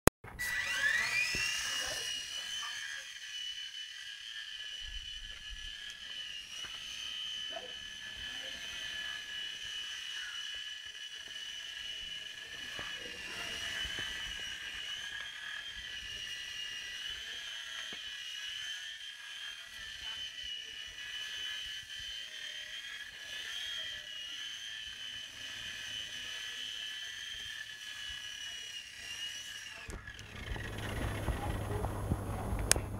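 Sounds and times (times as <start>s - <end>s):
rc helicopter motor whine: 0.3s - 32.9s.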